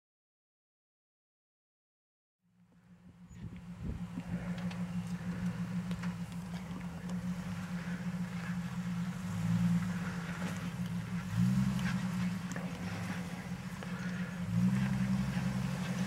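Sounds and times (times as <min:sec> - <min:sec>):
off-road engines running low: 0:02.6 - 0:16.0.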